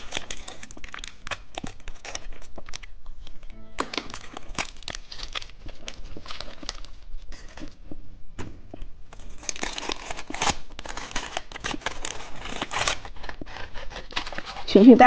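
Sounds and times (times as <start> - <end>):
plastic packaging crinkling: 0.0 - 7.9, 9.1 - 14.9.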